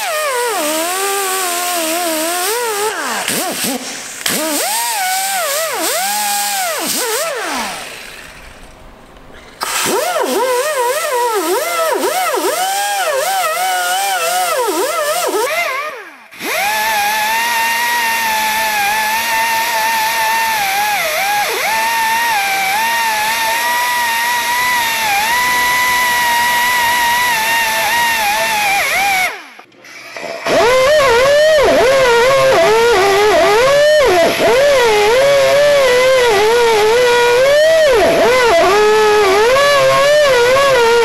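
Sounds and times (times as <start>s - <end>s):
air die grinder wire wheel whining: 0.0s - 41.0s.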